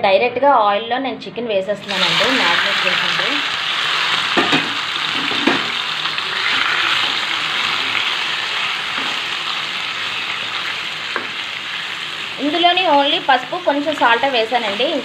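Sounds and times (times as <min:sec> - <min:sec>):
chicken sizzling in hot oil: 0:01.8 - 0:15.0.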